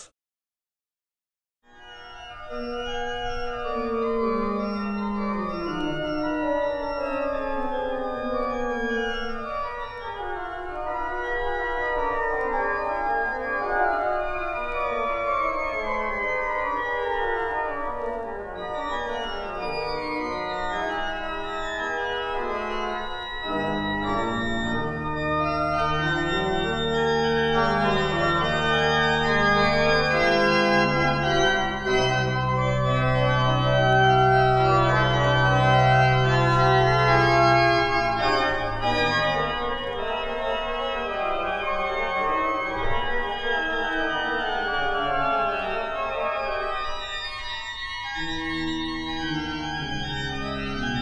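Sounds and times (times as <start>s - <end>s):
pipe organ playing: 1.8s - 51.0s.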